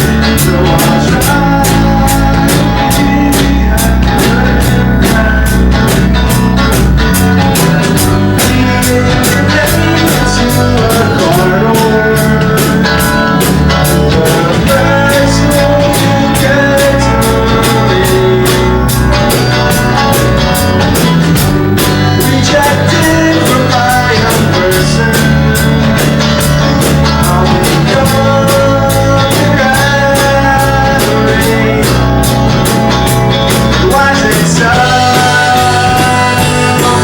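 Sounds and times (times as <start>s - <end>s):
drum kit beat: 0.0s - 37.0s
electric guitars: 0.0s - 37.0s.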